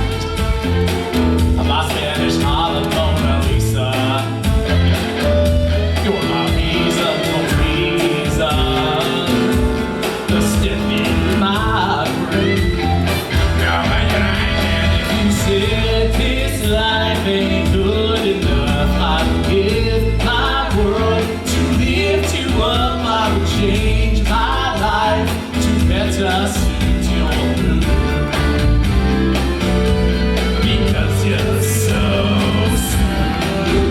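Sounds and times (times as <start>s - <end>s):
loud rock and roll music: 0.0s - 33.9s
person singing: 0.0s - 33.9s.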